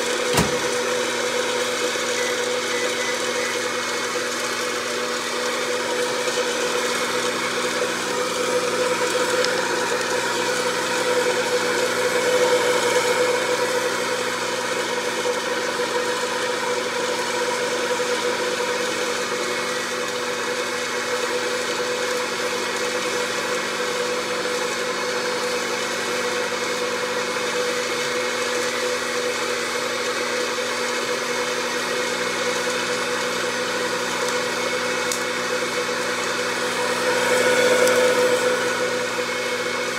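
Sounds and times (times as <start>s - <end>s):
popcorn popper fan whirring: 0.0s - 39.9s.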